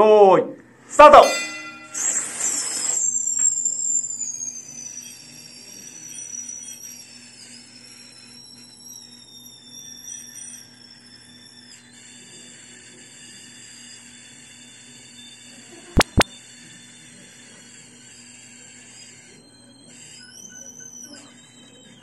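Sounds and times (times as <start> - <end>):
party blowers whistling: 1.0 - 22.0.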